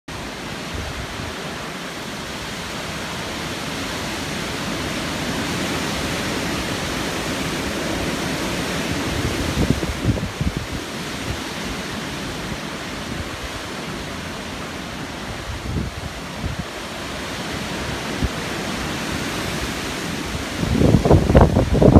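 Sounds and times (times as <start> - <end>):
strong wind rushing: 2.2 - 21.9
wind buffeting microphone: 2.4 - 21.9.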